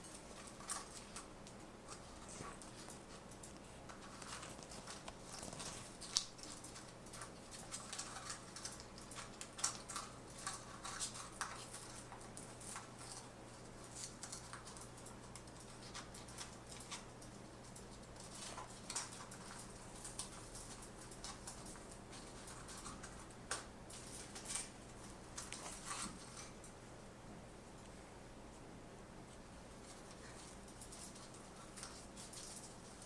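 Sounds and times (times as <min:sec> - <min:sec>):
parrot clicking and scratching: 0:00.0 - 0:26.8, 0:29.7 - 0:33.0.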